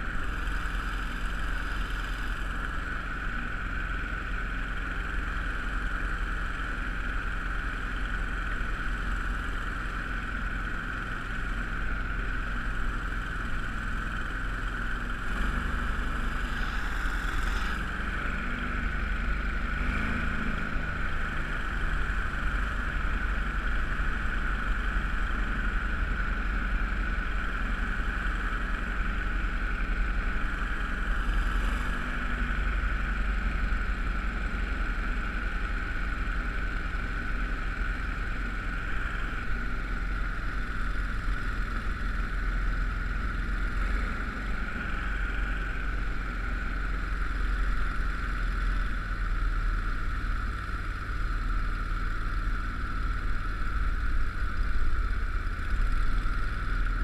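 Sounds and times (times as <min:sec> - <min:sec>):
boat motor running steadily: 0:00.0 - 0:57.0.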